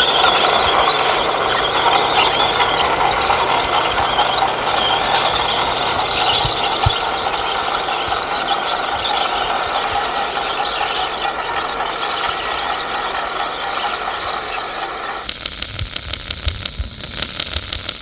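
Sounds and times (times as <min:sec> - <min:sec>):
model bulldozer high-pitched squeal: 0:00.0 - 0:15.3.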